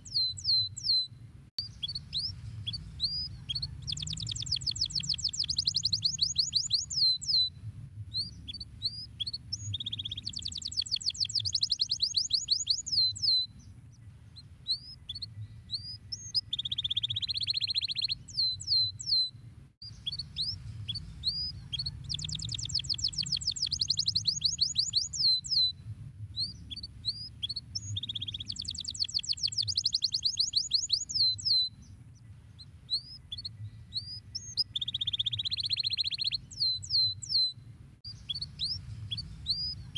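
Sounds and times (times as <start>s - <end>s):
canary singing: 0.0s - 7.5s, 8.2s - 25.8s, 26.4s - 39.9s
low background rumble: 0.0s - 35.8s, 36.4s - 39.9s.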